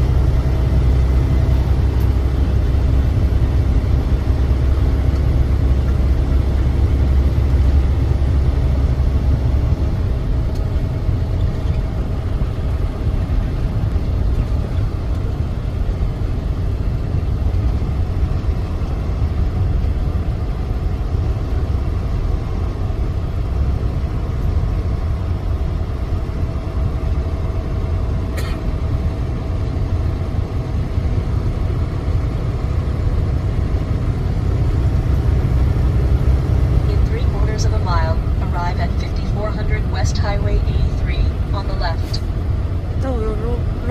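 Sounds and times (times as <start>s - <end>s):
truck engine rumbling: 0.0s - 43.9s.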